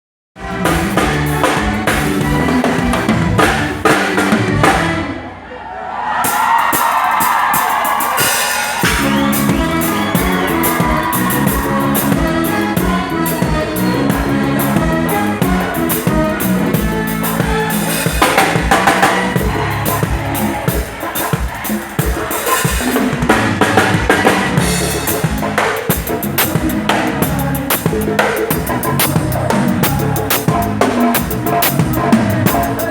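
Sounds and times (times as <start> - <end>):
drum kit beat: 0.4 - 5.2, 6.2 - 32.9
live band playing: 0.4 - 5.4, 6.2 - 32.9.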